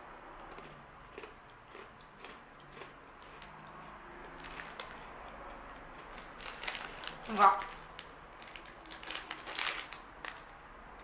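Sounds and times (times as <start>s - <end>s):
chewing crunchy crackers: 0.4s - 10.5s.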